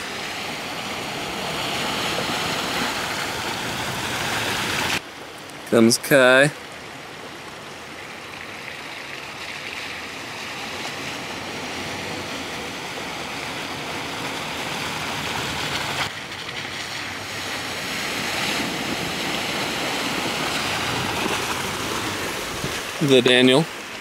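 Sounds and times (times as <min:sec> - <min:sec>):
running stream water: 0:00.0 - 0:24.0.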